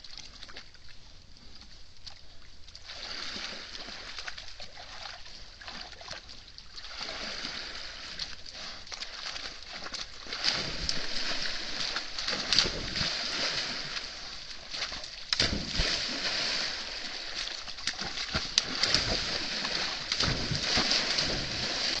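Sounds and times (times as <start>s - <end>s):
animal splashing through water: 2.8s - 22.0s.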